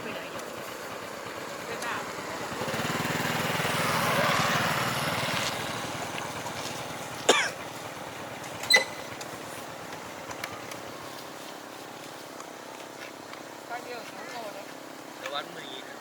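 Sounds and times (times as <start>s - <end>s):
motor engine hum: 0.0s - 16.0s.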